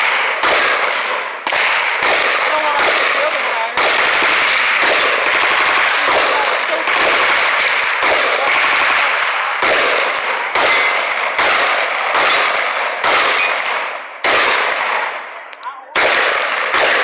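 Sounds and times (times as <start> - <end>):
echoing gunshots: 0.0 - 17.0.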